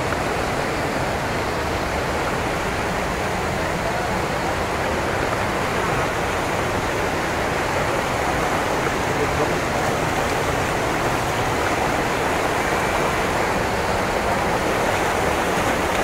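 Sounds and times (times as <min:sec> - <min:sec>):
waterfall rushing into river: 0:00.0 - 0:16.0.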